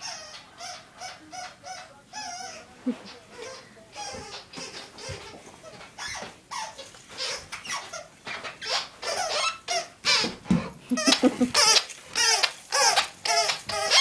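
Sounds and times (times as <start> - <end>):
squeaky dog toy squeaking: 0.0 - 2.7, 3.3 - 10.3, 11.0 - 14.0.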